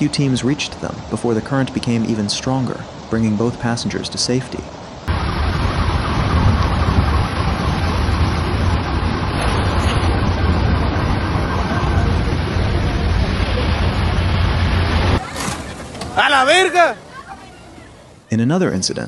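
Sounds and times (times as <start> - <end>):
floodwater rushing: 0.0 - 18.2.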